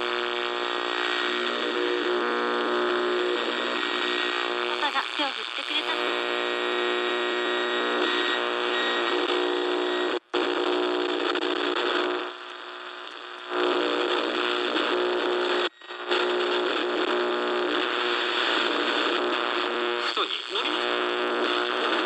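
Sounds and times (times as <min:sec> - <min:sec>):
radio static buzzing: 0:00.0 - 0:22.0.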